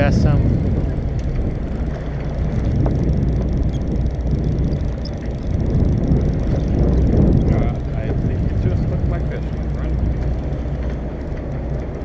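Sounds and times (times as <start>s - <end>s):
boat engine droning: 0.0s - 12.0s
sea rushing: 0.0s - 12.0s
wind: 0.0s - 12.0s.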